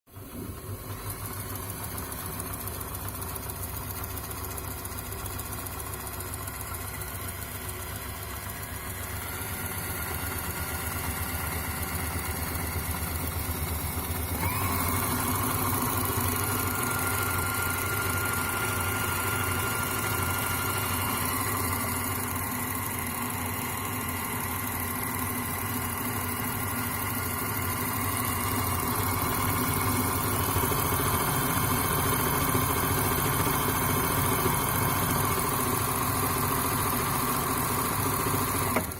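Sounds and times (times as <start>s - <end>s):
sewing machine running: 0.2s - 38.9s.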